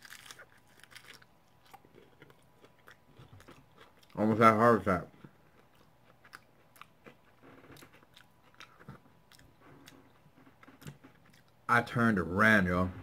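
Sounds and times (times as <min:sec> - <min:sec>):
faint crunchy chewing: 0:00.0 - 0:11.7.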